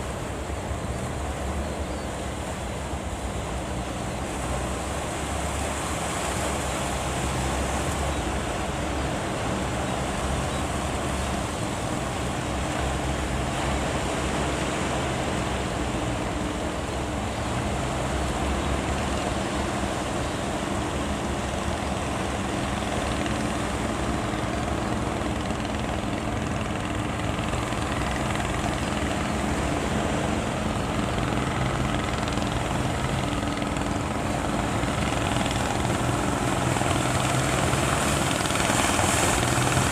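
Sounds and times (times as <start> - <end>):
boat engine running: 0.0 - 39.9
surf: 0.0 - 39.9
wind: 0.0 - 39.9.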